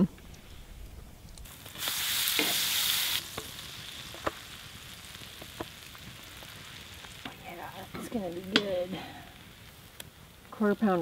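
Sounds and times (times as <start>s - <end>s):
butter sizzling on a griddle: 1.4s - 11.0s.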